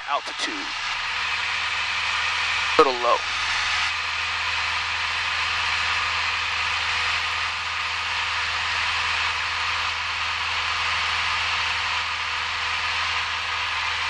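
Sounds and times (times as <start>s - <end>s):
propeller plane engine drone: 0.0s - 14.0s.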